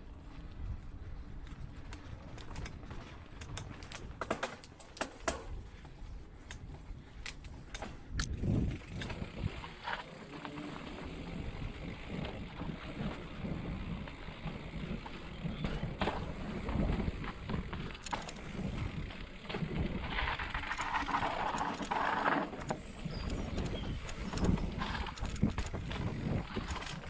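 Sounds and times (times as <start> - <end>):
bike rattling: 0.0 - 27.0
bike tyres crunching on gravel: 0.0 - 27.0.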